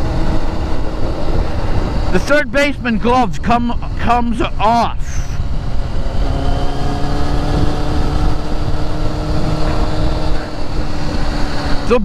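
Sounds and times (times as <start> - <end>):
vehicle road noise: 0.0 - 12.0.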